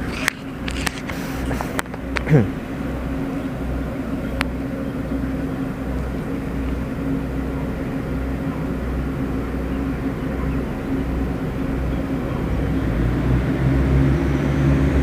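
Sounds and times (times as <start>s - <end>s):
low rumble: 0.0s - 15.0s
train machinery humming: 0.0s - 15.0s.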